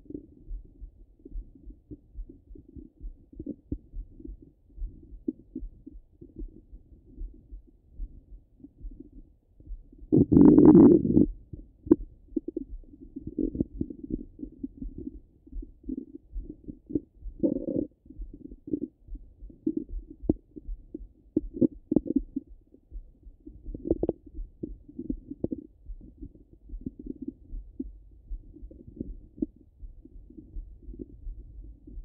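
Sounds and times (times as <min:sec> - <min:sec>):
stomach gurgles and rumbles: 0:00.0 - 0:32.0.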